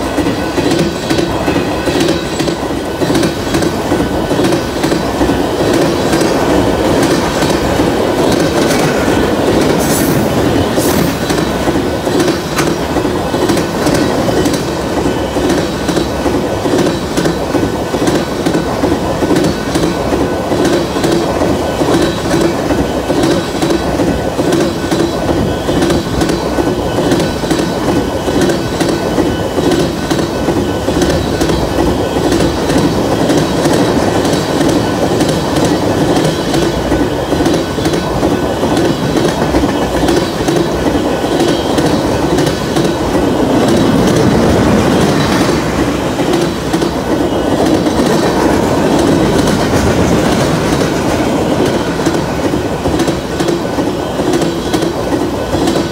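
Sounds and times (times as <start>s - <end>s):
clickety-clack over rail joints: 0.0s - 55.9s
train wheels rumbling on rail: 0.0s - 55.9s.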